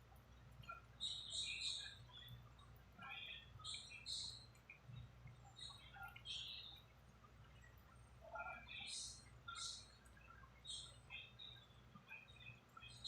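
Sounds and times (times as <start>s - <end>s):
low steady hum: 0.0s - 13.0s
birds chirping: 0.1s - 13.0s.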